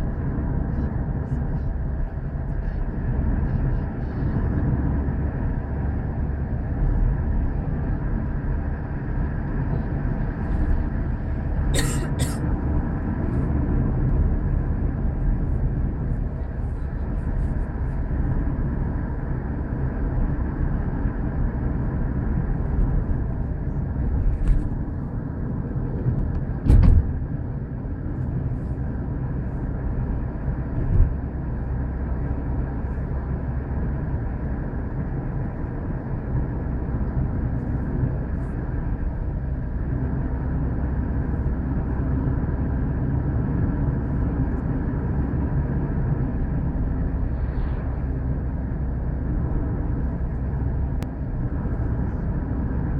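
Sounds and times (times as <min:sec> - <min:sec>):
train rumbling inside carriage: 0:00.0 - 0:52.9.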